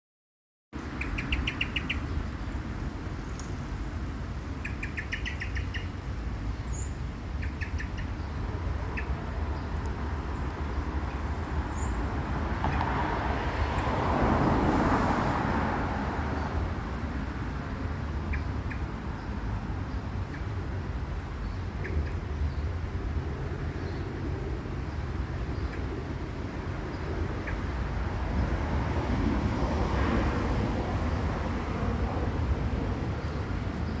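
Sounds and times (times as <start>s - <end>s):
road traffic rumble: 0.8s - 34.0s.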